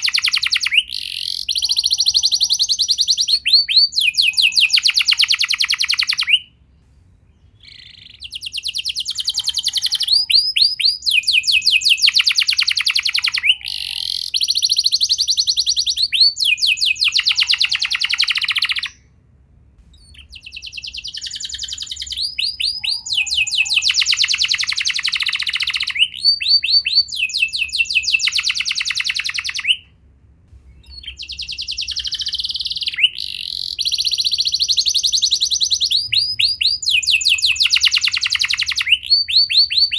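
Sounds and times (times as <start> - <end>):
canary singing trills: 0.0 - 6.6, 7.2 - 19.0, 19.9 - 29.9, 30.7 - 39.9.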